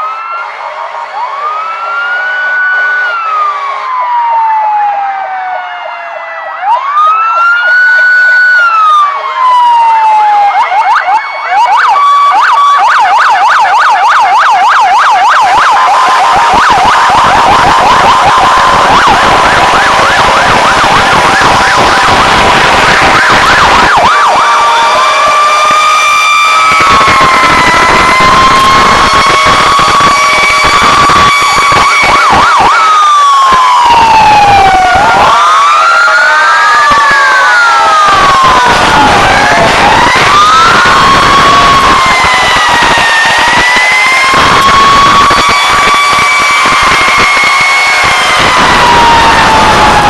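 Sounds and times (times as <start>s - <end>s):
fire truck siren wailing and yelping: 0.0s - 50.0s.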